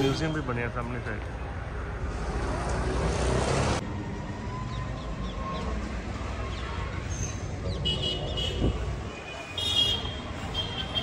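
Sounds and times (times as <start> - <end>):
traffic rumble and hiss: 0.0 - 11.0.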